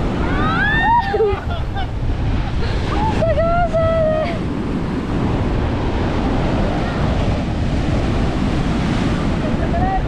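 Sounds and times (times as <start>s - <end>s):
storm surf breaking: 0.0s - 10.0s
wind buffeting microphone: 0.0s - 10.0s.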